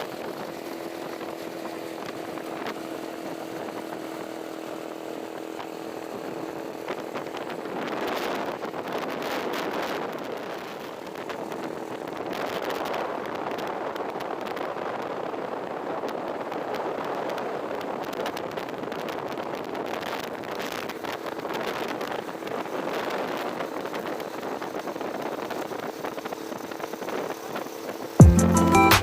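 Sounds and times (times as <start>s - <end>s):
motorcycle engine: 0.0s - 14.6s, 17.4s - 29.0s
wind rush over microphone: 0.0s - 28.2s
road noise: 0.0s - 29.0s.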